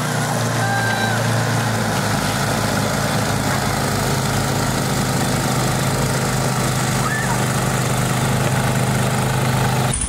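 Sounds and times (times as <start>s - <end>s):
snowblower engine running: 0.0s - 10.0s.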